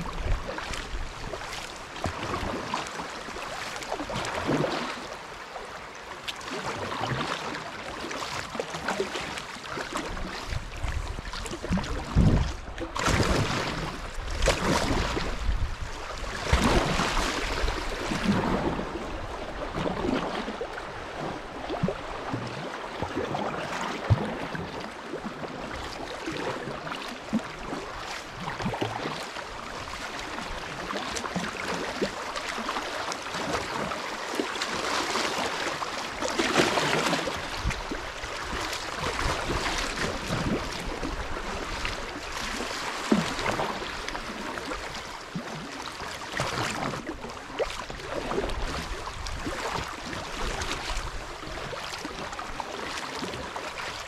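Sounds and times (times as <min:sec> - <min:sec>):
paddle stroke splashes: 0:00.0 - 0:54.0.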